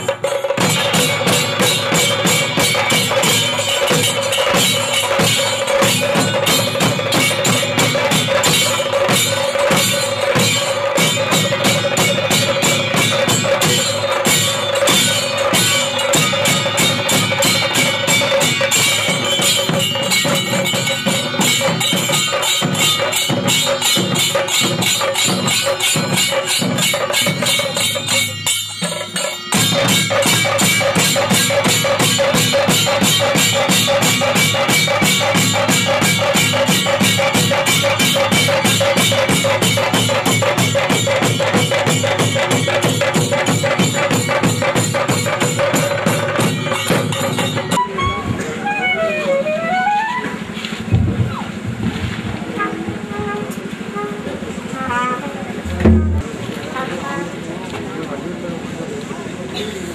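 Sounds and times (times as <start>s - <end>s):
drums beaten with sticks: 0.0s - 57.4s.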